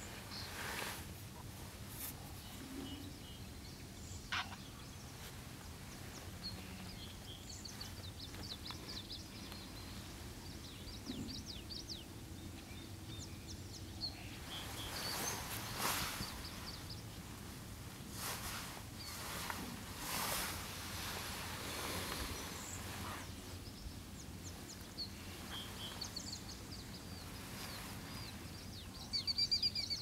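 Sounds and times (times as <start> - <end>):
birds chirping: 2.3 - 17.6, 19.0 - 30.0.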